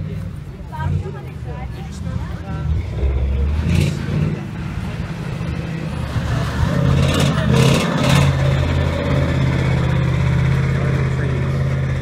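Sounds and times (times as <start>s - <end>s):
monster truck engine running: 0.8s - 12.0s.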